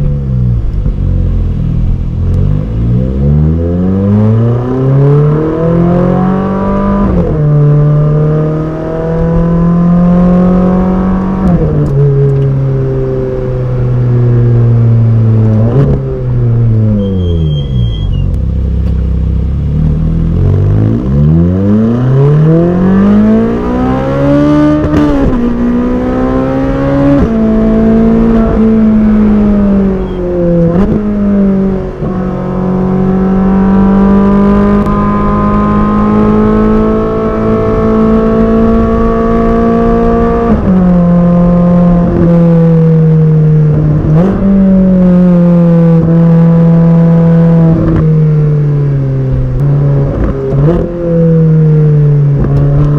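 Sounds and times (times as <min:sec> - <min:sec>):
sports car engine accelerating: 0:00.0 - 0:52.9.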